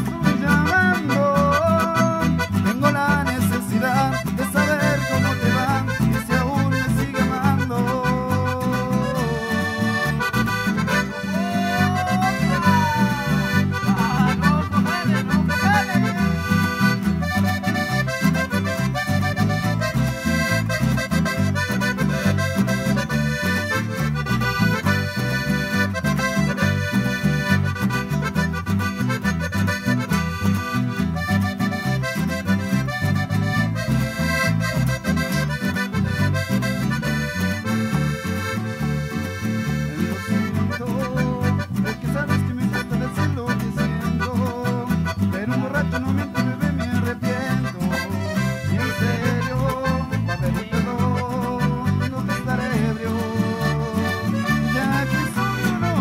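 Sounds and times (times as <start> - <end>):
accordion music: 0.0 - 56.0
rhythmic bass line: 0.0 - 56.0.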